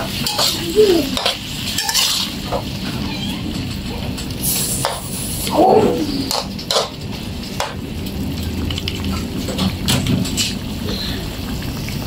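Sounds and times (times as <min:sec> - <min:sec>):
food simmering and sizzling in wok: 0:00.0 - 0:12.0.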